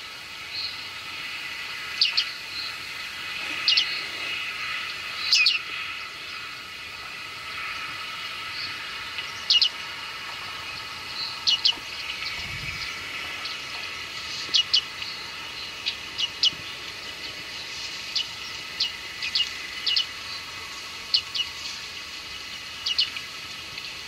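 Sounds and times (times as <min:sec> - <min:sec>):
steady background hiss: 0:00.0 - 0:24.0
birds giving high ping calls: 0:01.8 - 0:02.8, 0:03.4 - 0:06.6, 0:07.5 - 0:24.0.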